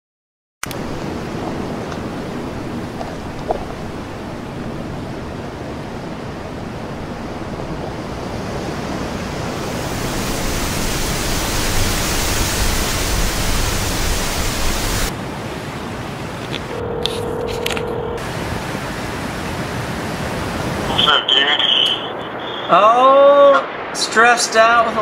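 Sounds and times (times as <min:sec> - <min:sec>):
steady rushing noise: 0:00.6 - 0:25.0.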